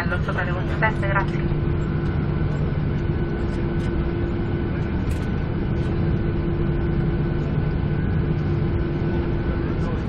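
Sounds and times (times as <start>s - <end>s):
aircraft cabin hum: 0.0s - 10.0s.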